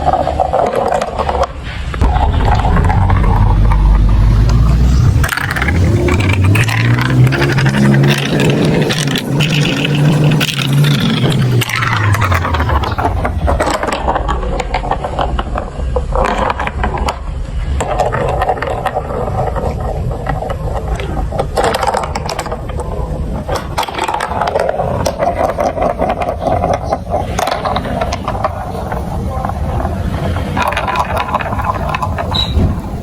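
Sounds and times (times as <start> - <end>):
marbles rolling on plastic track: 0.0 - 33.0.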